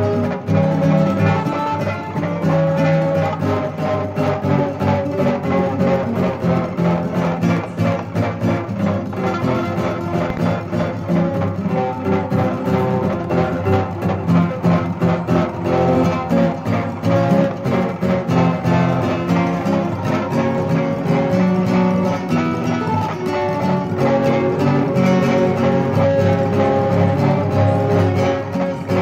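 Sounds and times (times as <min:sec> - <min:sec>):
classical guitar playing: 0:00.0 - 0:29.0.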